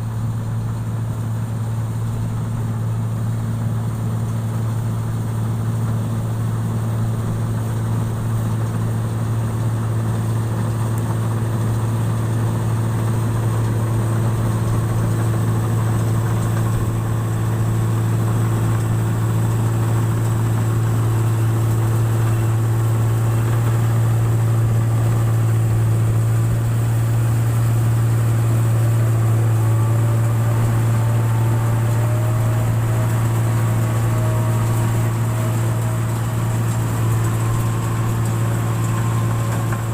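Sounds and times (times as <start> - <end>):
machine engine deep hum: 0.0 - 39.9.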